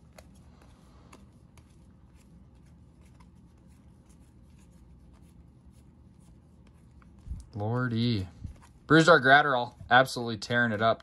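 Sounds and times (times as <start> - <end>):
low room hum: 0.0 - 11.0
trading cards rustling and clicking: 0.0 - 11.0.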